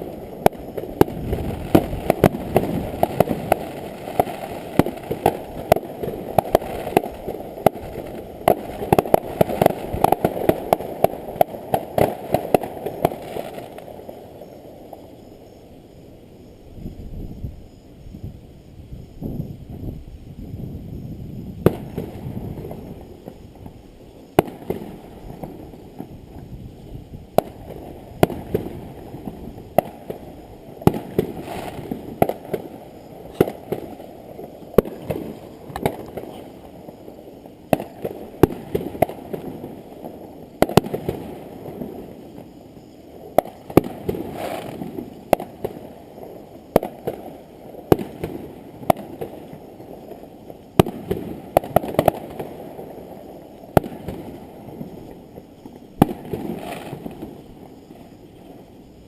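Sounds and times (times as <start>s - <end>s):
fireworks bangs: 0.0s - 15.1s, 21.5s - 58.6s.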